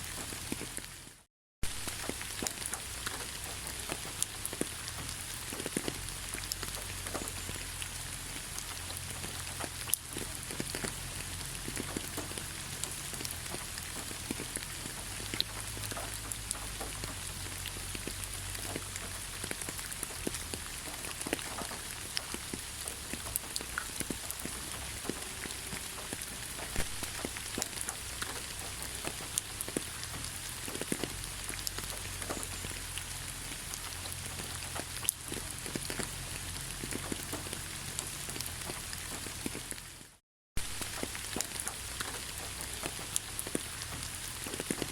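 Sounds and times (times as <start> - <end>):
low rain rumble: 0.0 - 44.9
raindrops ticking on hard surface: 0.0 - 44.9.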